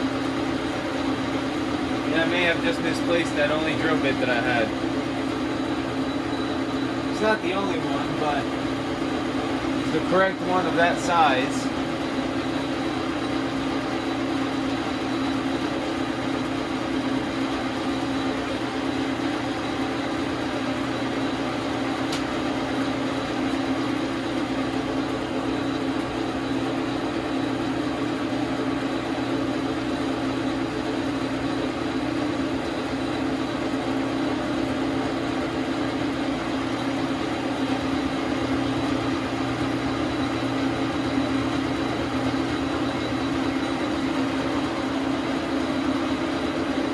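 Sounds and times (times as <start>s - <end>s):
metal lathe humming: 0.0s - 46.9s.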